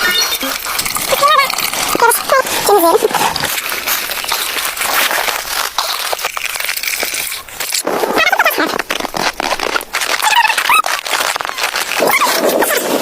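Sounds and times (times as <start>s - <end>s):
crunching footsteps in snow: 1.5s - 13.0s.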